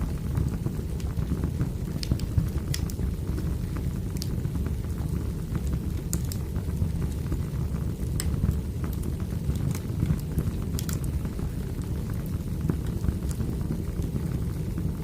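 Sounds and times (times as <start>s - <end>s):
fire rumbling: 0.0s - 15.0s.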